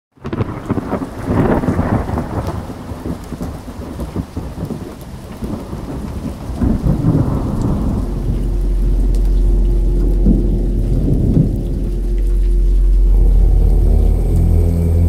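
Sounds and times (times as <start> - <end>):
low rumbling crackling noise: 0.1 - 15.0.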